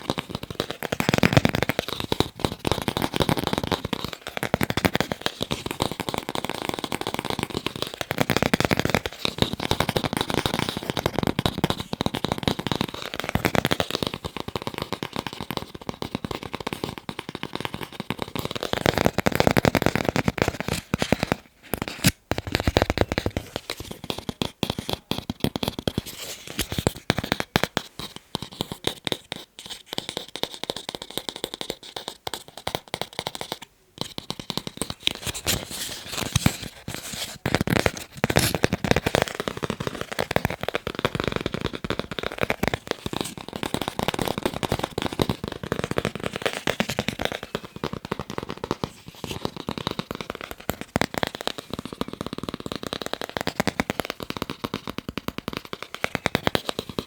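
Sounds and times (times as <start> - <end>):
fast tapping on hard objects: 0.0 - 57.0.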